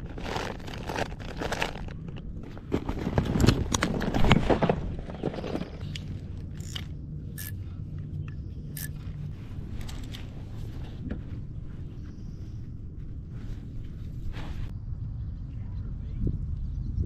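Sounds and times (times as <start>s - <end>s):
fishing gear rustling and knocking: 0.0s - 14.7s.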